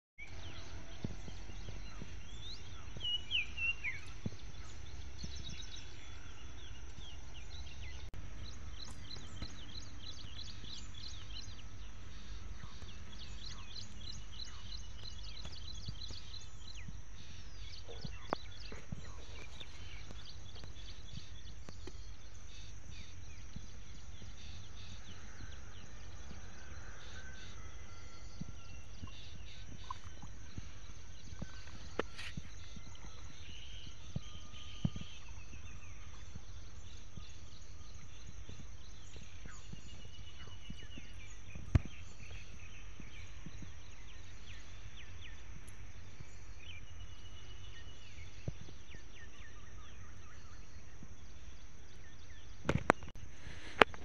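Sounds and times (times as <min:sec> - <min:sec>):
birds chirping: 0:00.2 - 0:54.0.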